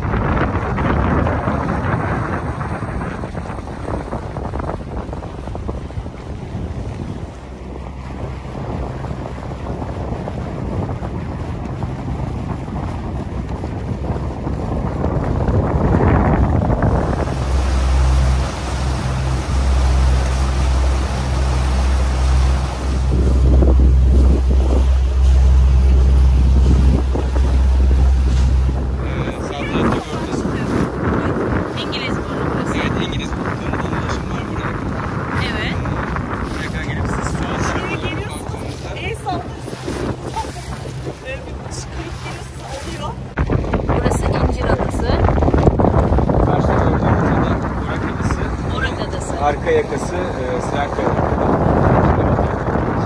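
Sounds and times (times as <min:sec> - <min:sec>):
boat engine drone: 0:00.0 - 0:53.0
water rushing in wake: 0:00.0 - 0:53.0
wind buffeting microphone: 0:00.0 - 0:53.0.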